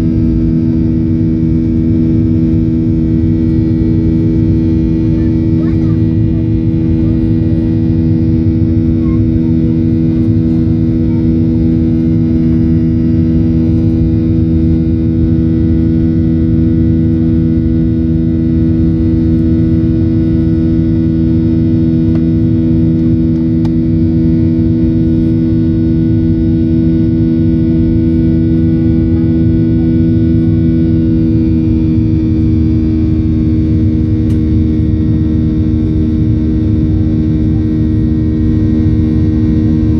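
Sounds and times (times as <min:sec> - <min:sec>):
jet engine buzzsaw in cabin: 0:00.0 - 0:39.9
low engine roar: 0:00.0 - 0:39.9.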